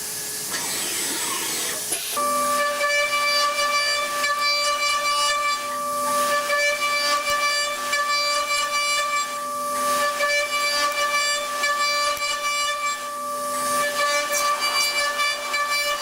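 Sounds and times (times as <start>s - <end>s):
metal lathe whining: 0.5s - 16.0s.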